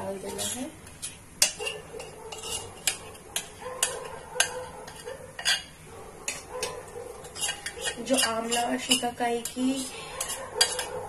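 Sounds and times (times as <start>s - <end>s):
metal spoon scraping a bowl: 0.0s - 11.0s.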